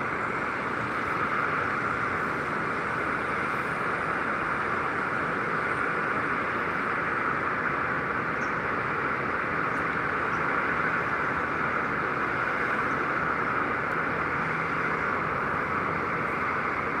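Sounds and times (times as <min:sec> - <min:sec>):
distant city traffic: 0:00.0 - 0:17.0.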